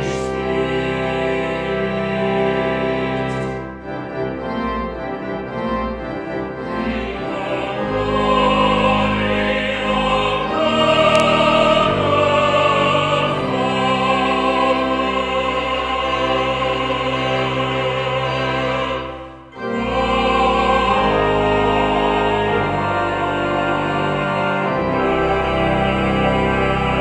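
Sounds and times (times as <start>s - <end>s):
choir singing: 0.0s - 27.0s
organ: 0.0s - 27.0s.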